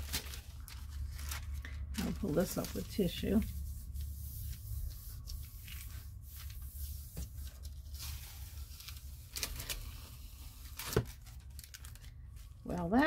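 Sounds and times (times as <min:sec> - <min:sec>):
hands rubbing tissue paper: 0:00.0 - 0:10.7
steady low hum: 0:00.0 - 0:13.0
tissue paper peeling rustle: 0:00.0 - 0:13.0.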